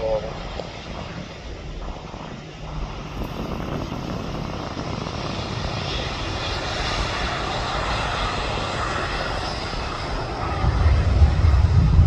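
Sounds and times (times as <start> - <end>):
aircraft engine roar: 0.0 - 12.0.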